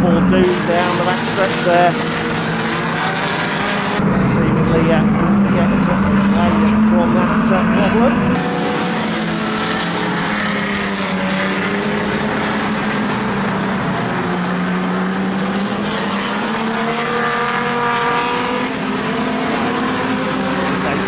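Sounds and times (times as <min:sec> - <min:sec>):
engine revving: 0:00.0 - 0:21.0
race car engines droning: 0:00.0 - 0:21.0.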